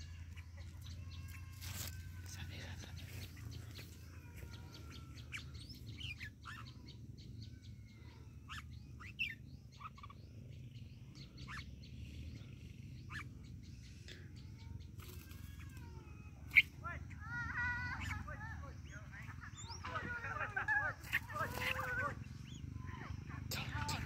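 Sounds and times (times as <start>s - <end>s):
birds chirping and whistling: 0.0s - 24.0s
low steady rumble: 0.0s - 24.0s.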